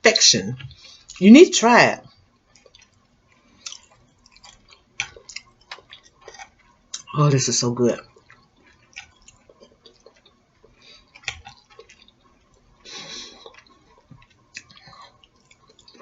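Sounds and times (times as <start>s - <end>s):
person chewing food: 0.6s - 1.2s, 2.0s - 7.1s, 8.0s - 16.0s.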